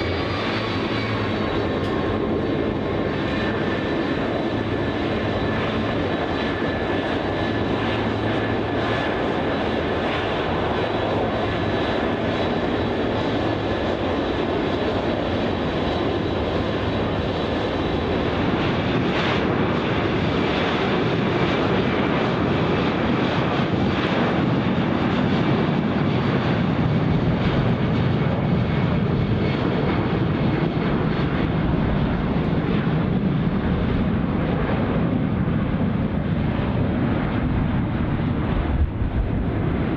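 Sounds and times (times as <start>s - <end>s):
jet aircraft engine and rushing air: 0.0s - 39.9s.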